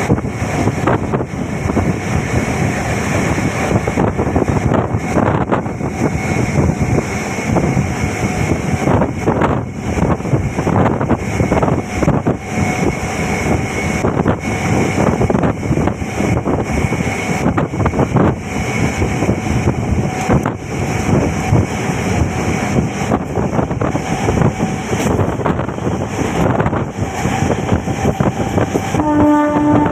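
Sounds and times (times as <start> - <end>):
moving vehicle running: 0.0 - 29.9
wind buffeting microphone: 0.0 - 29.9.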